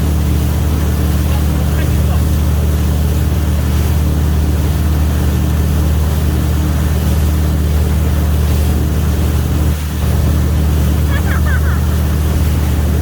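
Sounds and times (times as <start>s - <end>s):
boat engine humming: 0.0s - 13.0s
water rushing: 0.0s - 13.0s
wind: 0.0s - 13.0s.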